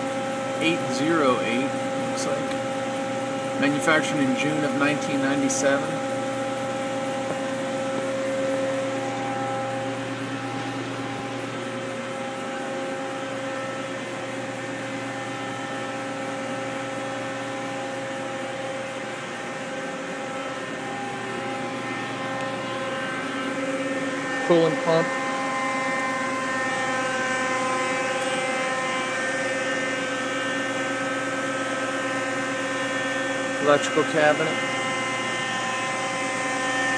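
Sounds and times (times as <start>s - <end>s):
lathe humming: 0.0s - 36.9s.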